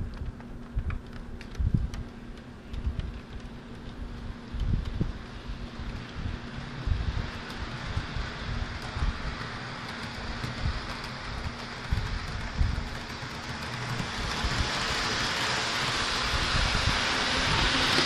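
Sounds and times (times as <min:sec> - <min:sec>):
low uneven rumbles: 0:00.0 - 0:17.7
model train running on track: 0:00.0 - 0:18.0.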